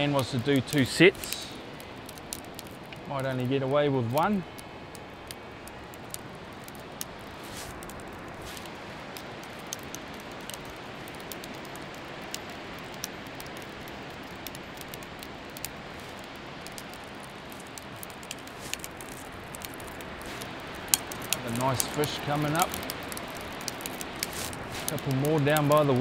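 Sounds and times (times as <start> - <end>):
ocean surf: 0.0 - 3.0, 3.7 - 26.0
faint ticks: 0.0 - 26.0
wind: 0.0 - 26.0.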